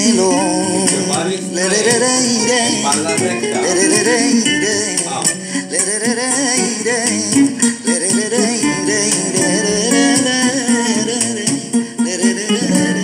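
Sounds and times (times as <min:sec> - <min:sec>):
latin-style instrumental music: 0:00.0 - 0:13.0.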